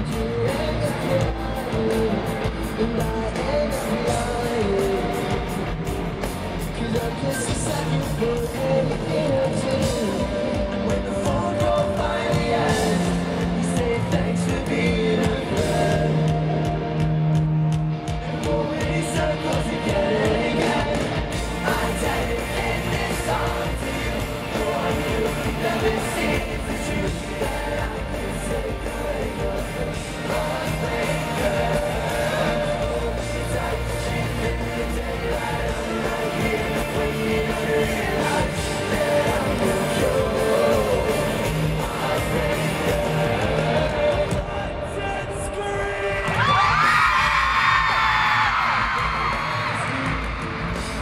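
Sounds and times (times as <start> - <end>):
bass guitar: 0.0 - 44.9, 46.2 - 51.0
drums: 0.0 - 51.0
electric guitars: 0.0 - 51.0
person singing lead vocal: 0.0 - 51.0.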